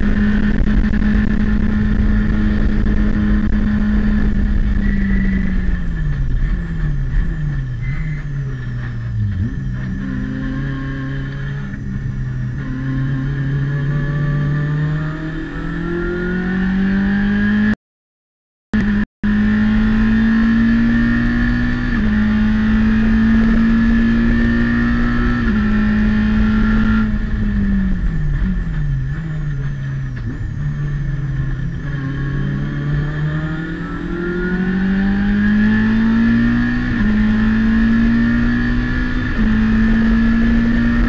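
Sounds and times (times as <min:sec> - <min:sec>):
race car engine at full throttle: 0:00.0 - 0:17.8, 0:18.8 - 0:41.0.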